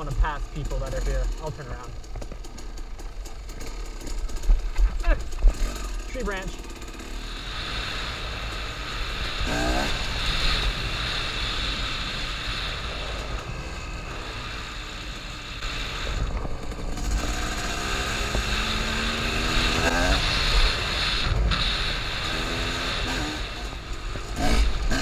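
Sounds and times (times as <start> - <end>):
two-stroke motorcycle engine revving: 0.0 - 25.0.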